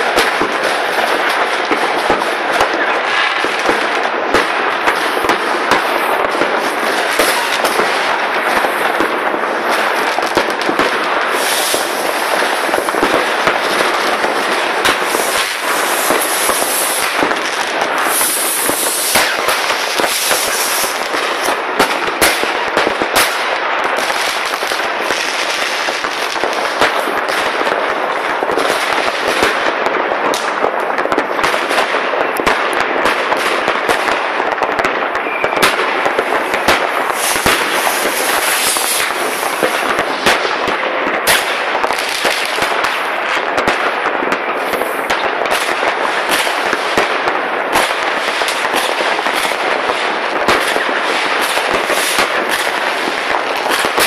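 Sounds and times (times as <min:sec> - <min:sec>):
firecrackers crackling: 0:00.0 - 0:54.0
fireworks bangs: 0:00.0 - 0:54.0.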